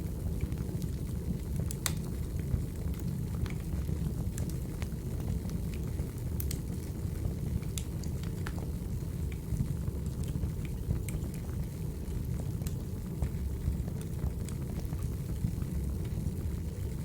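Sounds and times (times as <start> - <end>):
low fire rumble: 0.0 - 17.0
firewood crackling and popping: 0.1 - 16.3.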